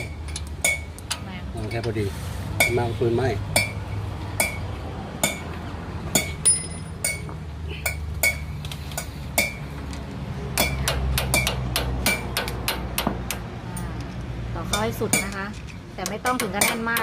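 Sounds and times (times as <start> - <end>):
sharp metal-on-metal taps: 0.0 - 1.9, 3.5 - 9.6, 10.6 - 13.9, 14.7 - 17.0.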